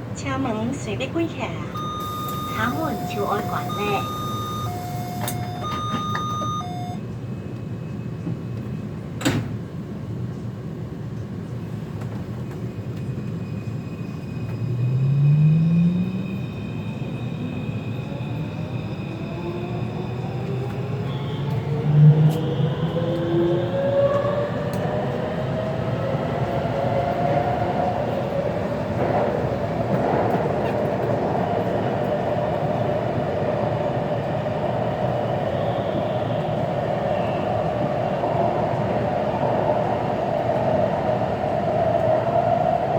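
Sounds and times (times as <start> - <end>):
train car rumble: 0.0 - 42.9.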